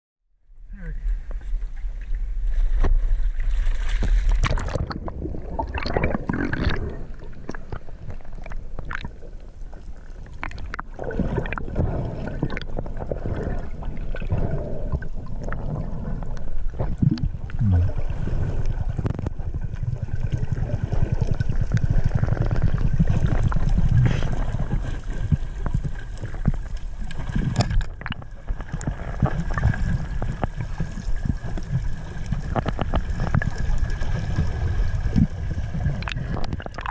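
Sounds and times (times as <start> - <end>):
seawater gurgling and sloshing: 0.9 - 36.9
water splashes: 1.5 - 36.9.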